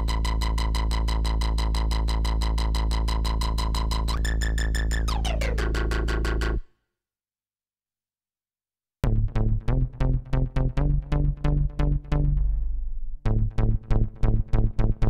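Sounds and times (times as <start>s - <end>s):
pulsing synthesizer bass note: 0.0s - 6.6s, 9.0s - 15.0s.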